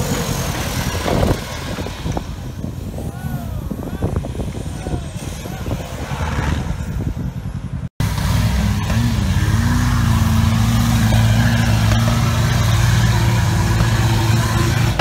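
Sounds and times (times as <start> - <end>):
buggy engines droning: 0.0 - 15.0.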